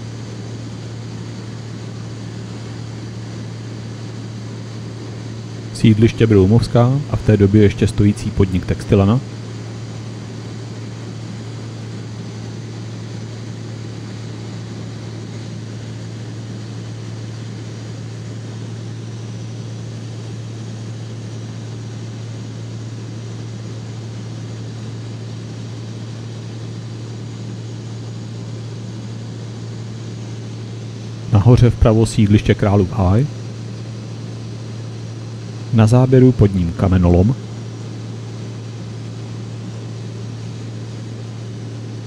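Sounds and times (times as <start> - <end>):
propeller aircraft engine drone: 0.0 - 42.0.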